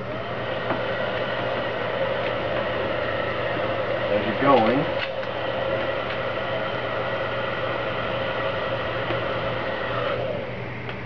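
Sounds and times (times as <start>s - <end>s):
heat gun fan whirring: 0.0s - 11.0s.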